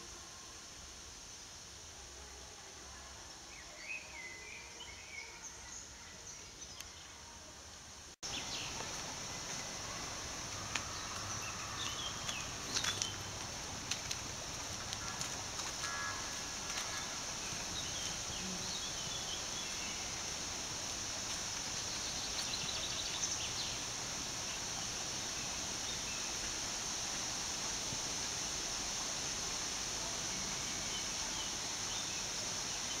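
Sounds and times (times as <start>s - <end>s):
steady high hiss: 0.0s - 33.0s.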